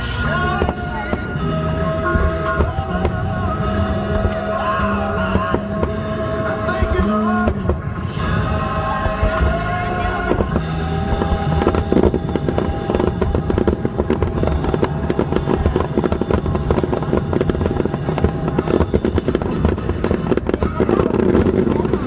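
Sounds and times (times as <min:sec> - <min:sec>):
fireworks cracks and pops: 0:00.0 - 0:22.0
music playing: 0:00.0 - 0:22.0.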